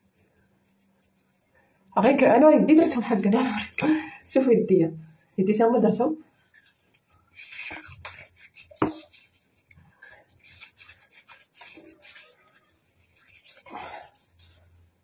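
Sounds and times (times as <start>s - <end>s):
hands rubbing together: 2.2s - 15.0s.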